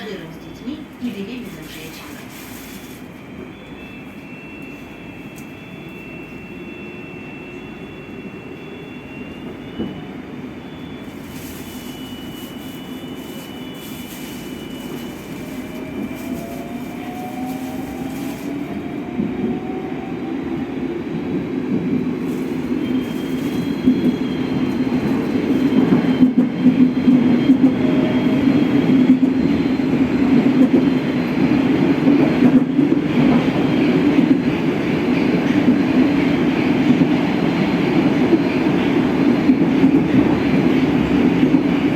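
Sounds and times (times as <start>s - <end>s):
train running on track: 0.0s - 41.9s.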